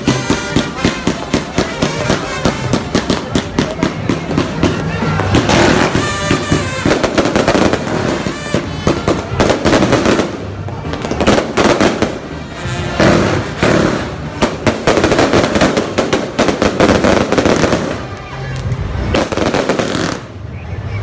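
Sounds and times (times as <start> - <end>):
firecrackers cracking and popping: 0.0 - 20.6
music playing: 0.0 - 21.0.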